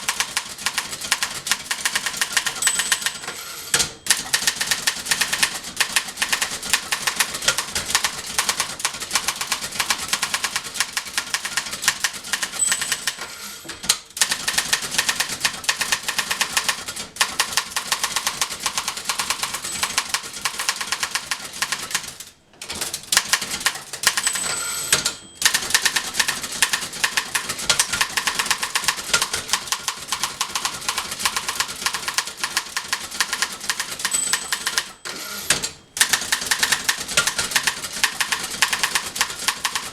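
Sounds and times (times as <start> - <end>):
manual typewriter keystroke clacks: 0.0 - 13.2, 13.8 - 39.9.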